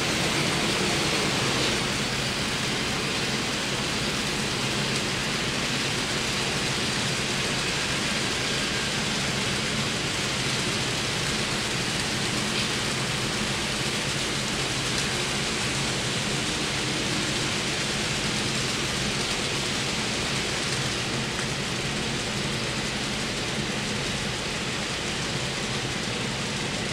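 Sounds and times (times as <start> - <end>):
model train cars rolling on track: 0.0 - 26.9.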